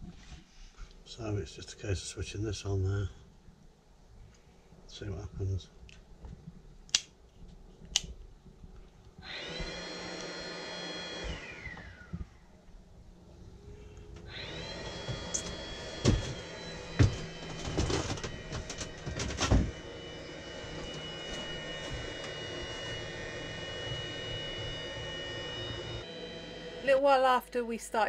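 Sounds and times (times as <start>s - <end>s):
heater fan whining: 0.8s - 28.0s.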